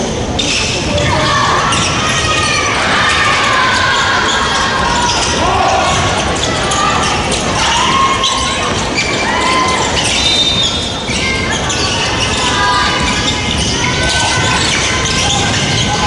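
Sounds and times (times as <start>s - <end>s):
hubbub of voices: 0.0s - 16.0s
sneakers squeaking: 0.0s - 16.0s.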